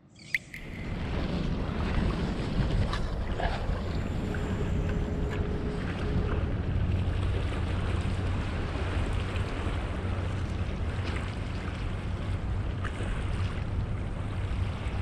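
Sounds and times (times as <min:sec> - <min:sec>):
wind buffeting microphone: 0:00.5 - 0:15.0.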